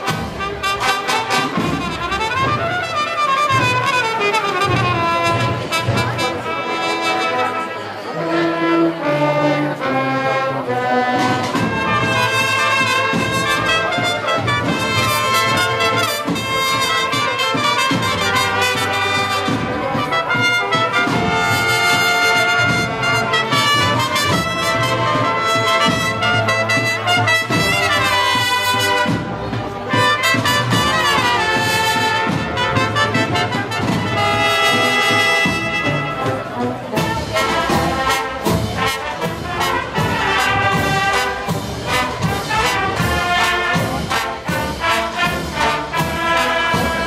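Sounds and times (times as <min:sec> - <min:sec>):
brass band playing a march: 0:00.0 - 0:47.0.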